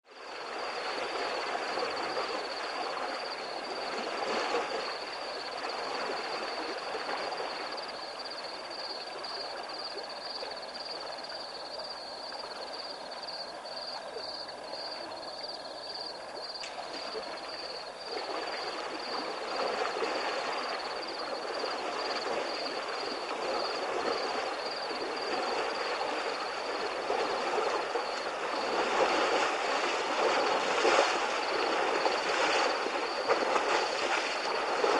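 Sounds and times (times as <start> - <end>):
water rushing and sloshing: 0.1 - 34.9.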